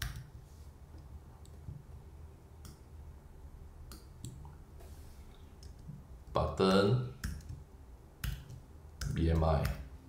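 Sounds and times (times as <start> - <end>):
low steady room hum: 0.0 - 10.0.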